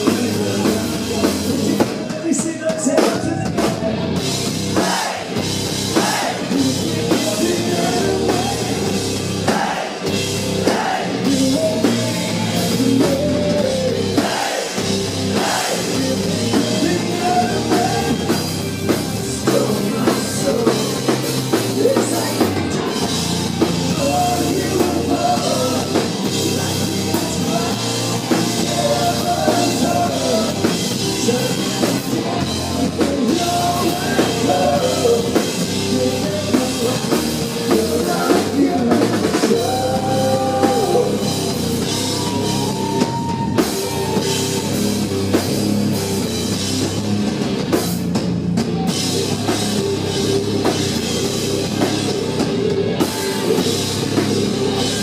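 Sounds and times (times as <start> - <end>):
drum kit: 0.0 - 55.0
hard rock band playing live: 0.0 - 55.0.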